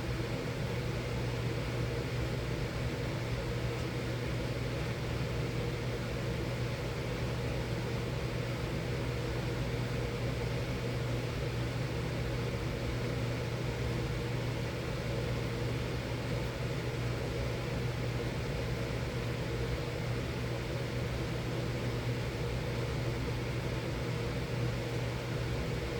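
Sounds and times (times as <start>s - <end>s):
furnace hum: 0.0s - 25.9s.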